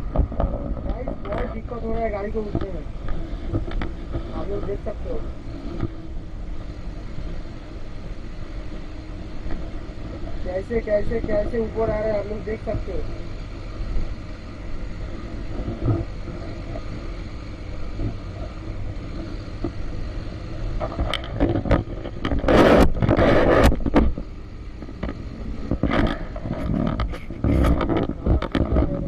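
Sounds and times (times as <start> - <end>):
motorcycle engine rumbling: 0.0 - 29.0.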